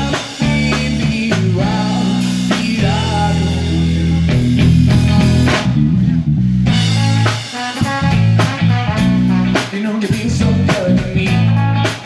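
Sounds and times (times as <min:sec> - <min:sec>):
bass guitar groove: 0:00.0 - 0:12.0
drum kit: 0:00.0 - 0:12.0
electric guitar: 0:00.0 - 0:12.0.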